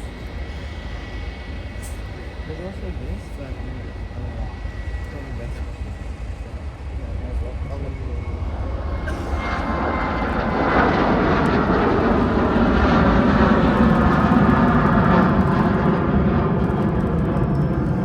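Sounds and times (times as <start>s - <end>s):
jet airliner engines passing: 0.0s - 18.0s.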